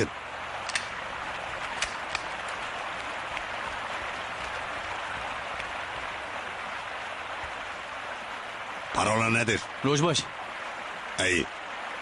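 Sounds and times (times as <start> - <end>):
steady outdoor ambience hiss: 0.0 - 12.0.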